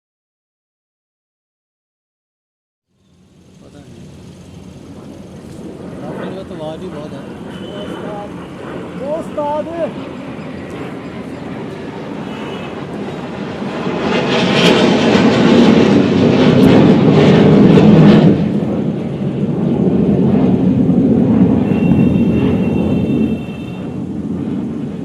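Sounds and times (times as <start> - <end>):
jet aircraft roaring past: 2.9 - 25.0.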